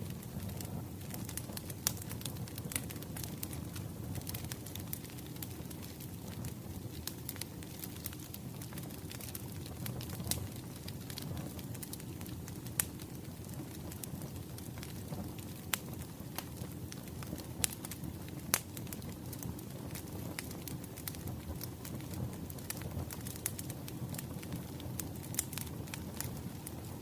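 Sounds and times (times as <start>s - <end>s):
burning logs popping: 0.0s - 27.0s
low rumble of flames: 0.0s - 27.0s
wood fire crackling: 0.0s - 27.0s.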